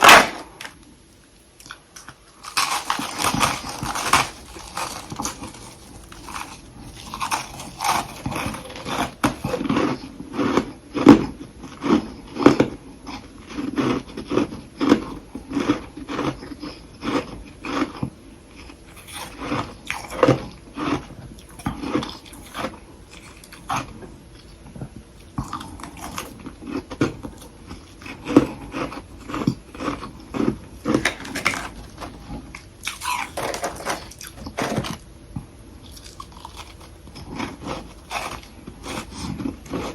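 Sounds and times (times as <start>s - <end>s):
soft crunchy chewing: 0.6s - 39.9s.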